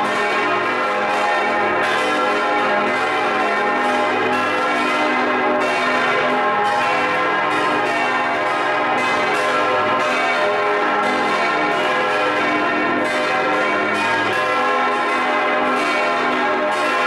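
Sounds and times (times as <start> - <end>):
large church bell ringing: 0.0 - 17.0.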